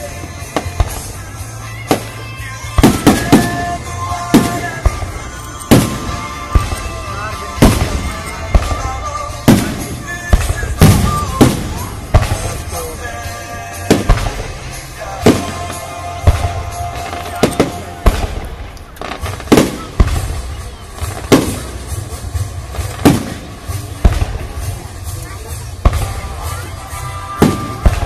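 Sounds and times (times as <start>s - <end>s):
firework shells booming: 0.0s - 26.6s
background music: 0.0s - 28.0s.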